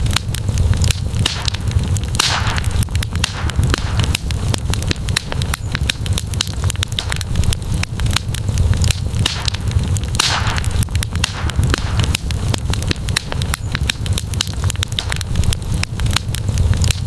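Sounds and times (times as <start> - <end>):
campfire crackling and popping: 0.0 - 17.0
low rumble: 0.0 - 17.0.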